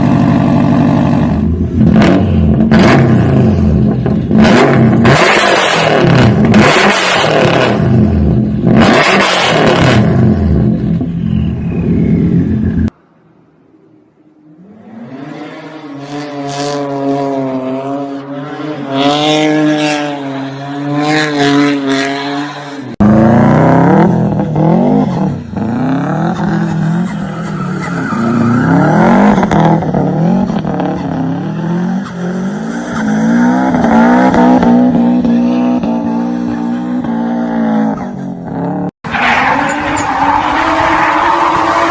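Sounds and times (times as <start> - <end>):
car engine revving hard: 0.0 - 10.8, 14.6 - 41.9.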